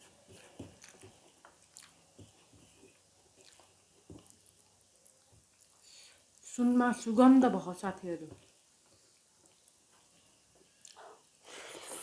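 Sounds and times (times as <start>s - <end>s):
soft chewing: 0.0s - 6.6s, 8.3s - 12.0s.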